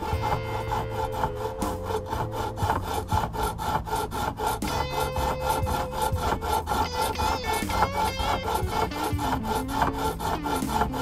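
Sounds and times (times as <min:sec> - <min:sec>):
file rasping on fret ends: 0:00.0 - 0:11.0.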